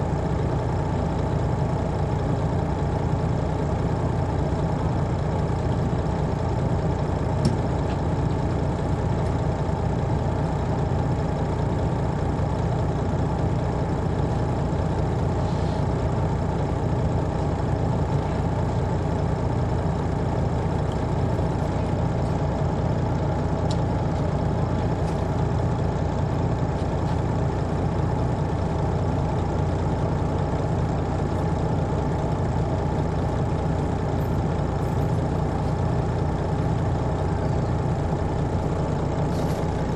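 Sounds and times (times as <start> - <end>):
diesel bus engine drone: 0.0 - 39.9.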